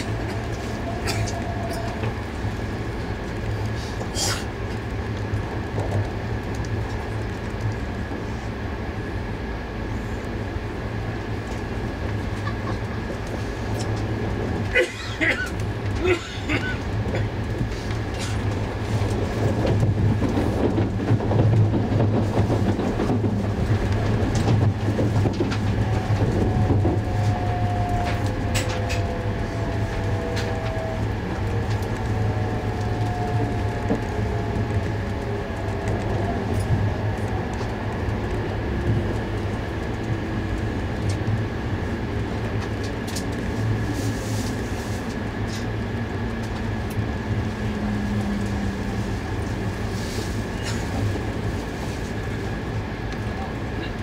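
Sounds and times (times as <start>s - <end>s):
train running gear rumble: 0.0s - 54.0s.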